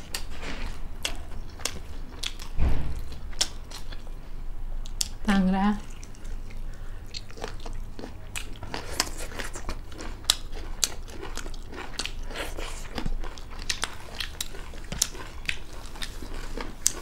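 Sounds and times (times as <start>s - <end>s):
mouth chewing with crunches: 0.0s - 17.0s.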